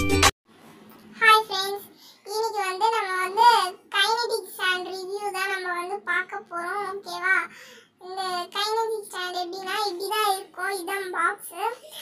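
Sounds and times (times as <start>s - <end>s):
child sing-song voice: 1.2s - 12.0s.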